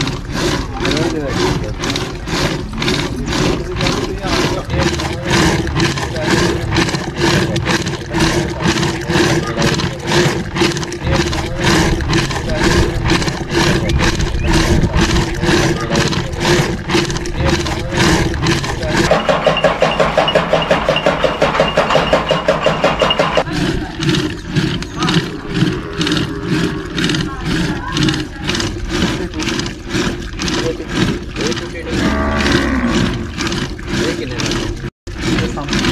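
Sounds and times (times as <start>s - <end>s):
chaff cutter chopping fodder: 0.0s - 35.9s.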